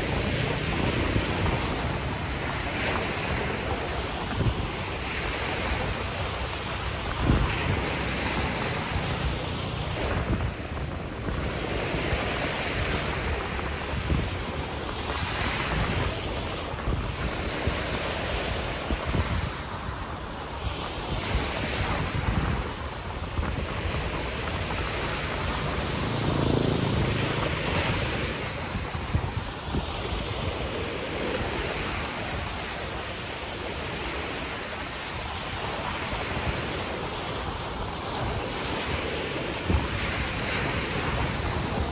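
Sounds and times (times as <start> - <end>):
ocean surf breaking: 0.0 - 41.9
wind buffeting microphone: 0.0 - 41.9.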